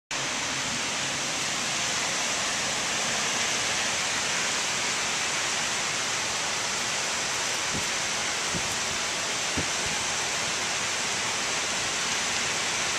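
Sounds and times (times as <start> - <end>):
heavy rain pouring: 0.2 - 12.9.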